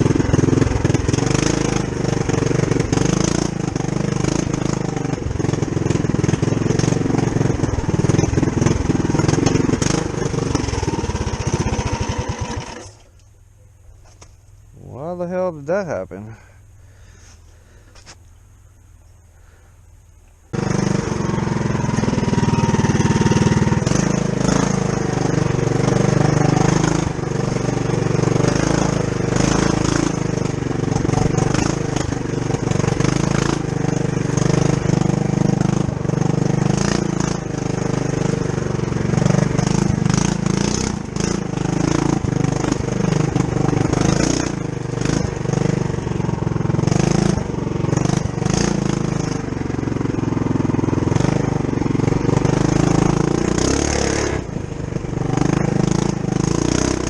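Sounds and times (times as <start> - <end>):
mini bike engine running: 0.0 - 13.1, 20.5 - 57.0.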